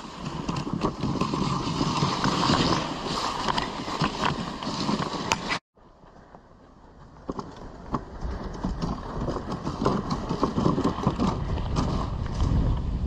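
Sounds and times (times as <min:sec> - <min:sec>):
sled runners scraping over snow: 0:00.0 - 0:13.0.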